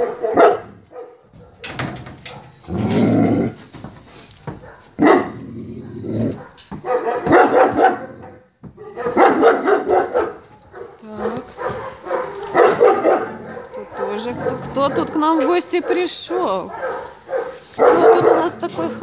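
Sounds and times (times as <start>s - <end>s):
dog barking: 0.0s - 1.6s, 4.6s - 5.4s, 6.3s - 19.0s.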